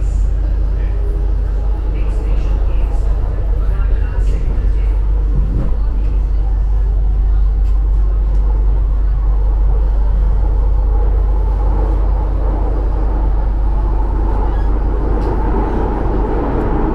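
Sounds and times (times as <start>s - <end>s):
metro train rumbling: 0.0s - 16.9s.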